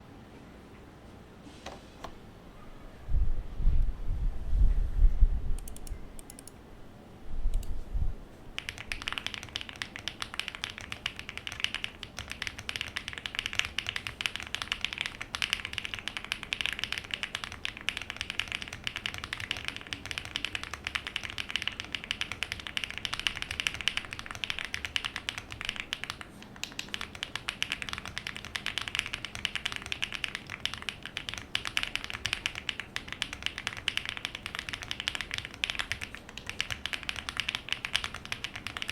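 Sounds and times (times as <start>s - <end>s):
mechanical keyboard typing: 5.6s - 6.6s, 8.6s - 38.9s.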